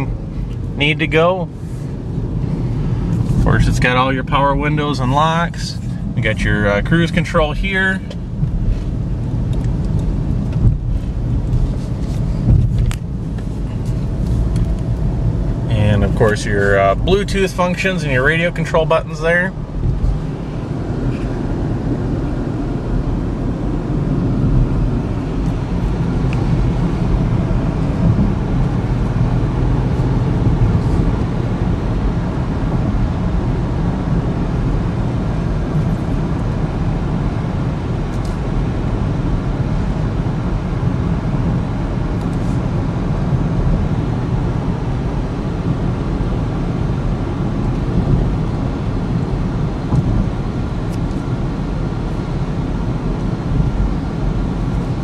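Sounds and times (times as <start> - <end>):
road and engine rumble in car: 0.0 - 55.0.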